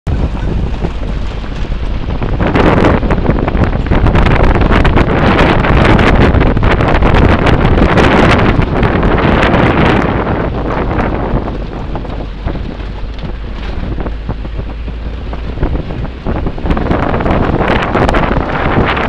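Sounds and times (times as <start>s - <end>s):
vehicle rumble: 0.0s - 19.0s
wind buffeting microphone: 0.1s - 19.0s.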